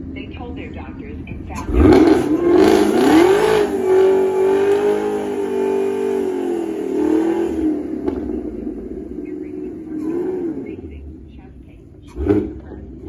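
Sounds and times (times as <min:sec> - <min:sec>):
car engine revving high: 0:01.3 - 0:13.0.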